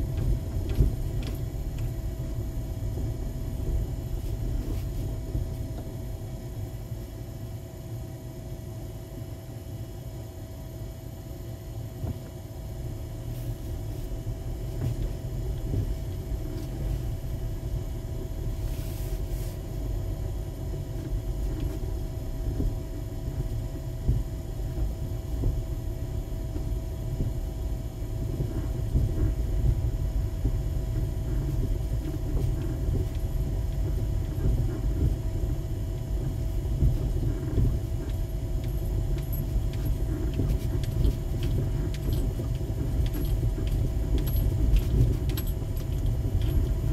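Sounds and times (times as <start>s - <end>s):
car engine and tyre rumble: 0.0s - 46.9s
faint steady whine: 0.0s - 46.9s.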